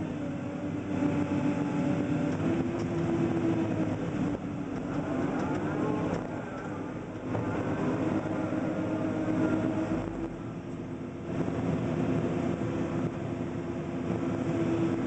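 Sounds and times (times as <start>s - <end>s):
excavator diesel engine under load: 0.0s - 15.0s
rising whine: 0.0s - 15.0s.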